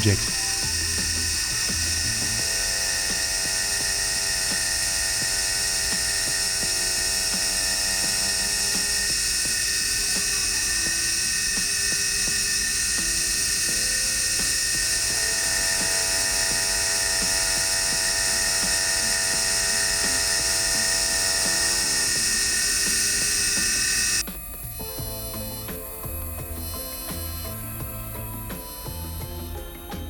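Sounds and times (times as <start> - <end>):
milling spindle whine: 0.0 - 30.0.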